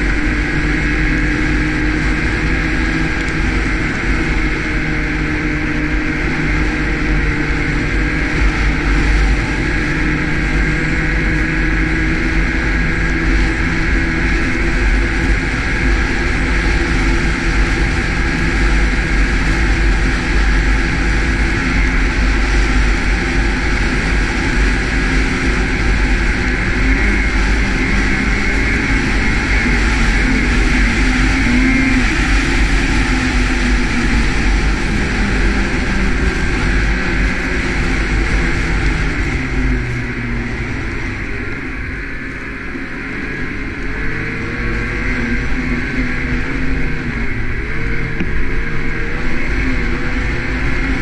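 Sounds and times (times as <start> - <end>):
snowmobile engine running: 0.0 - 51.0.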